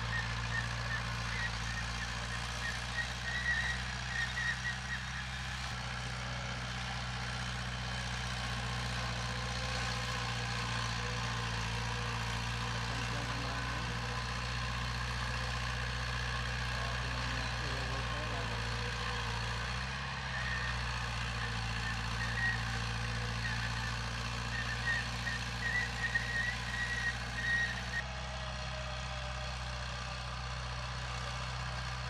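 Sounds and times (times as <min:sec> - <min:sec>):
diesel machinery running: 0:00.0 - 0:32.0.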